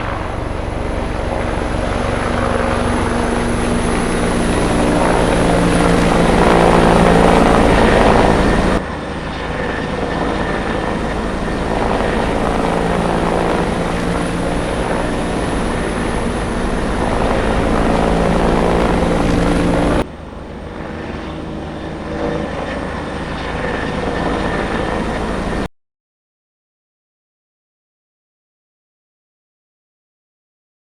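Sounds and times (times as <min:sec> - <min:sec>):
helicopter rotor and engine: 0:00.0 - 0:25.7.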